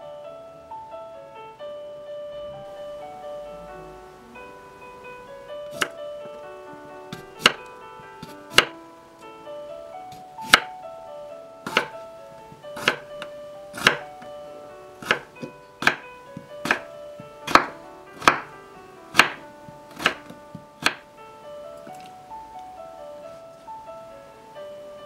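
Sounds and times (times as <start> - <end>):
light background music: 0.0 - 25.0.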